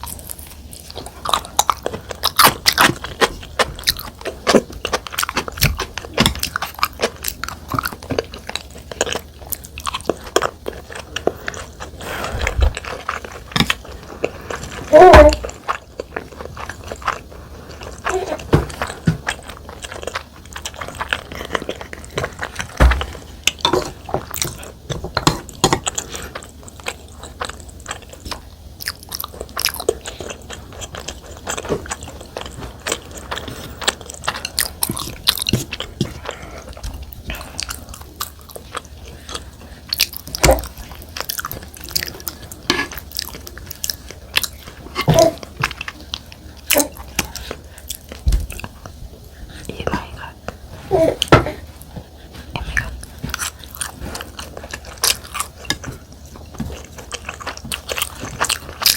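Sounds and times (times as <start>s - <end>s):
person chewing food: 0.0s - 58.9s.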